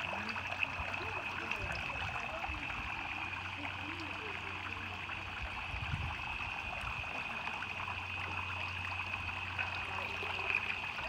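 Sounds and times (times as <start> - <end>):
water trickling into basin: 0.0 - 11.0.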